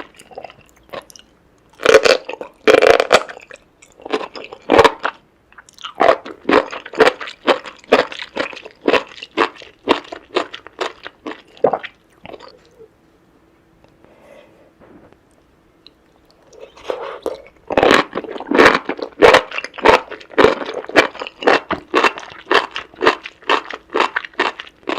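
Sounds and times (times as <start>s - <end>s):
crunching bites of seafood: 0.0s - 12.7s, 16.2s - 24.9s
chewing: 0.0s - 12.9s, 15.9s - 24.9s.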